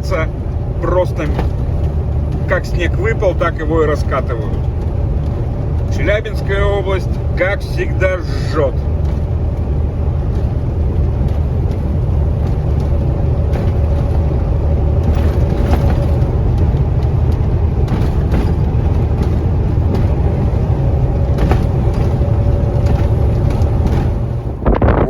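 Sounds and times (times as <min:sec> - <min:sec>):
knocks and rattles: 0:00.0 - 0:08.0, 0:08.7 - 0:25.0
truck diesel engine rumble: 0:00.0 - 0:25.0.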